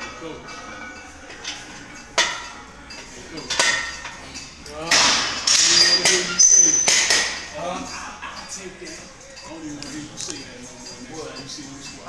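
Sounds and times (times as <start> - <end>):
weight plates clanking: 0.0 - 12.0.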